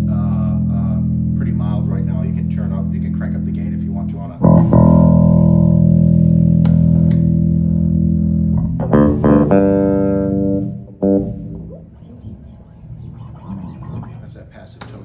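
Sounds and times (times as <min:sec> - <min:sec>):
electric bass notes: 0:00.0 - 0:14.2.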